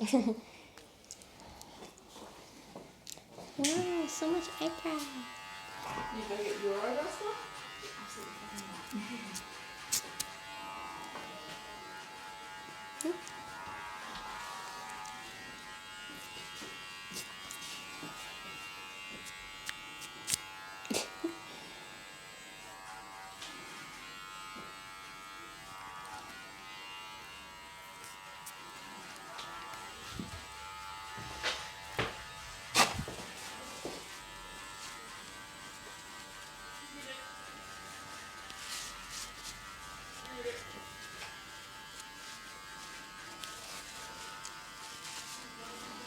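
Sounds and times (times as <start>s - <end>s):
electric hair trimmer buzzing: 3.6s - 46.0s.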